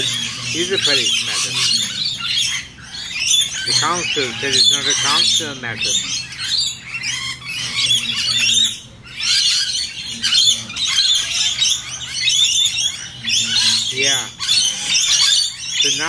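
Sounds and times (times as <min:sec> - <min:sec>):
parrots chattering and screeching: 0:00.0 - 0:16.0.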